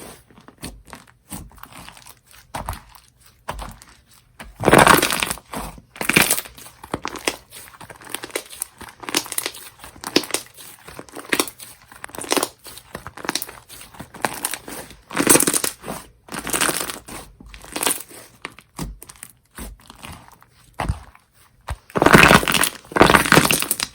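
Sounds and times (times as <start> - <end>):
hands squishing slime: 0.0 - 23.9.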